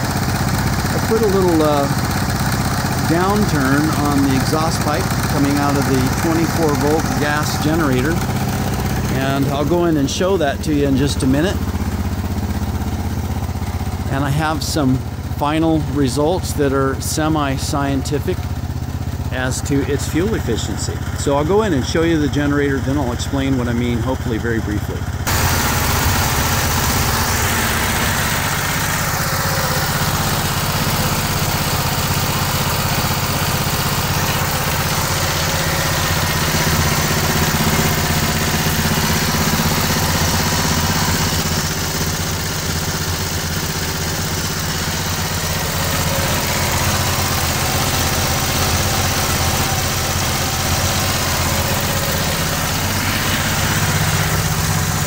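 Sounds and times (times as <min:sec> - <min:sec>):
small gas engine generator running: 0:00.0 - 0:55.0.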